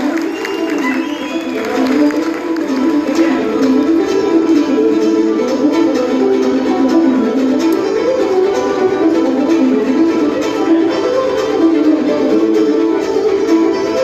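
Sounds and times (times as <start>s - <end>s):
fiddles playing quick melody: 0.0s - 14.0s
plucked string backing: 0.0s - 14.0s.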